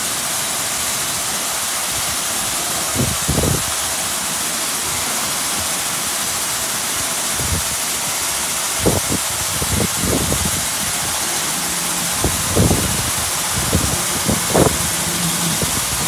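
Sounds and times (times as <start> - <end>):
water jets spraying a car: 0.0 - 16.0.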